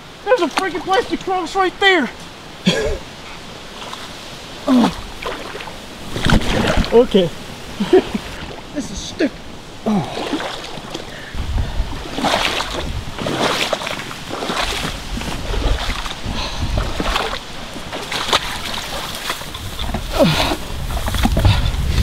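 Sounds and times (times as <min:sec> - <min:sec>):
stream rushing: 0:00.0 - 0:22.0
water sloshing from wading: 0:00.3 - 0:22.0.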